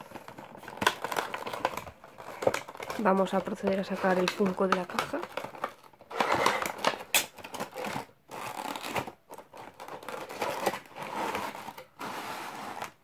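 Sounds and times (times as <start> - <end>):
cardboard and plastic rustling: 0.0 - 13.0.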